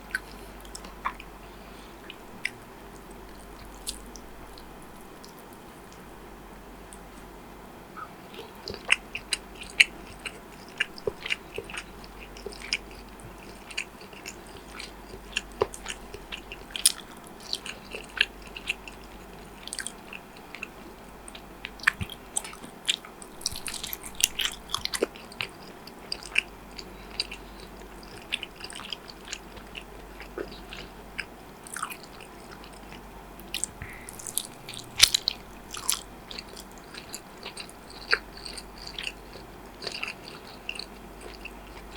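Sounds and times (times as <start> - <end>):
person chewing crunchy food: 0.0 - 6.0, 8.3 - 41.9.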